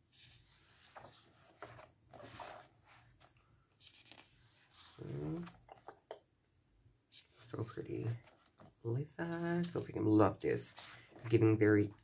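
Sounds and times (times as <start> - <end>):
paper pages turning: 0.1 - 6.0, 7.1 - 12.0.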